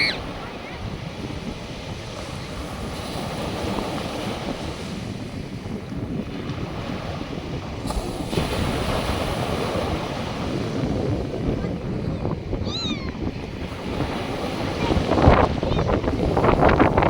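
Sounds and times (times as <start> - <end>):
surf washing ashore: 0.0 - 17.0
wind rumbling on microphone: 0.0 - 17.0.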